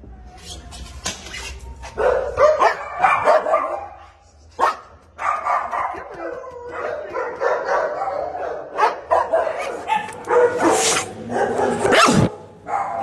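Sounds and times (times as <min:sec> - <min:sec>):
dog barking and yipping: 0:02.0 - 0:04.0, 0:04.6 - 0:13.0.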